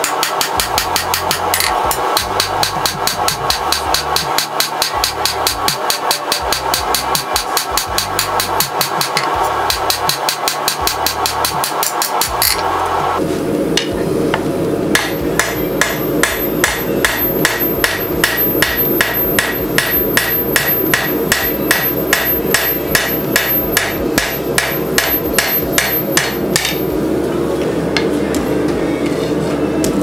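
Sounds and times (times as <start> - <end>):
hammer striking metal on anvil: 0.0 - 12.7, 13.8 - 27.0.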